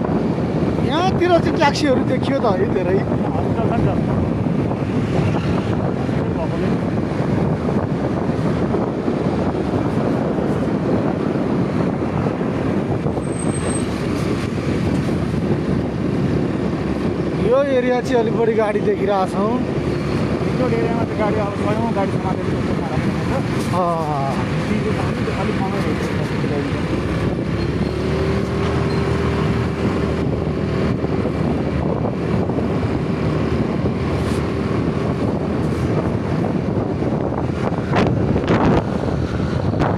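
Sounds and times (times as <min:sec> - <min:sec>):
rushing air and tyres: 0:00.0 - 0:39.9
wind buffeting microphone: 0:00.0 - 0:39.9.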